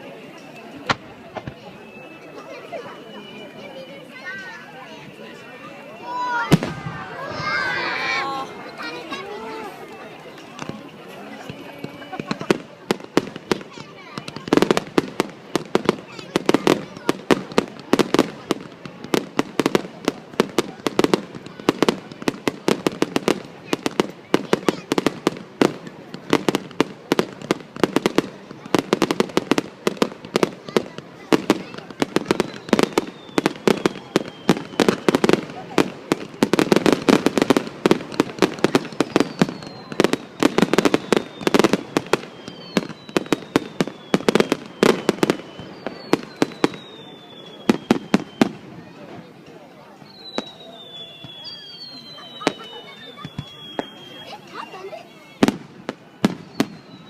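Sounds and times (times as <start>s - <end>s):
fireworks bangs: 0.2s - 57.0s.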